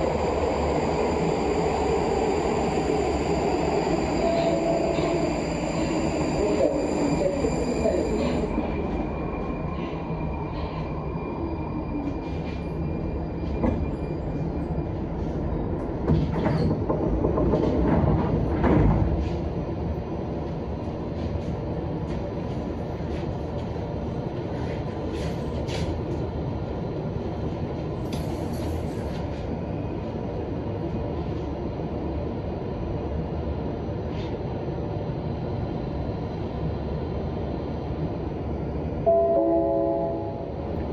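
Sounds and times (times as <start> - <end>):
standing train hum: 0.0 - 40.9.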